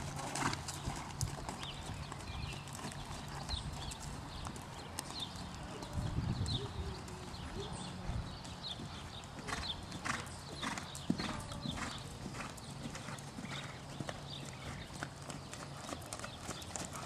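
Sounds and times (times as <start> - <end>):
horse hoofbeats on sand: 0.0 - 6.7, 7.3 - 17.0.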